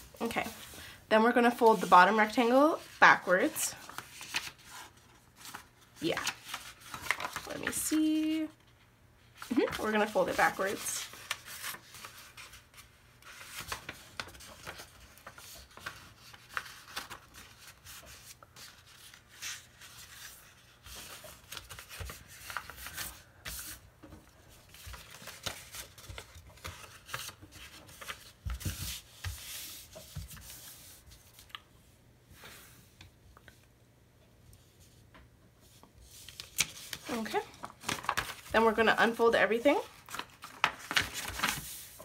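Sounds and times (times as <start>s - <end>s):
paper rustling and crinkling: 1.4s - 31.7s, 34.6s - 42.0s.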